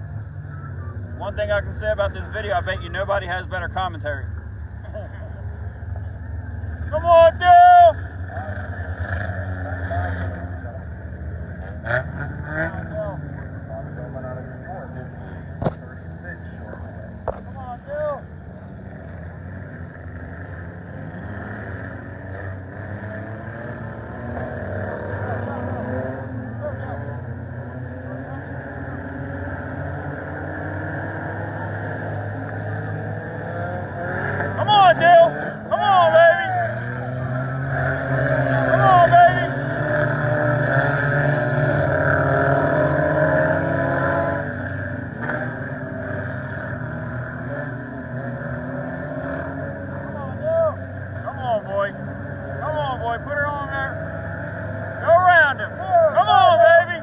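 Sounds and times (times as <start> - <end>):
race car engines: 0.0 - 57.0.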